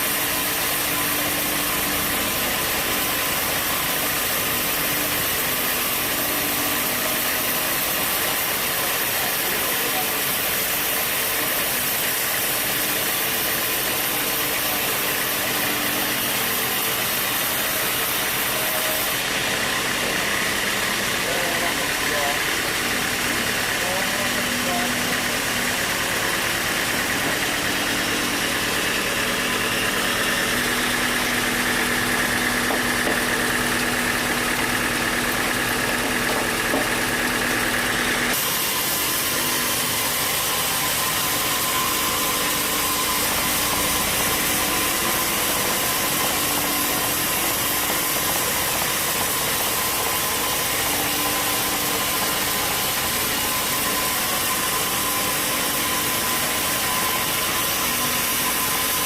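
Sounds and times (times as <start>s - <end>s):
sawmill machinery engine humming: 0.0s - 59.0s.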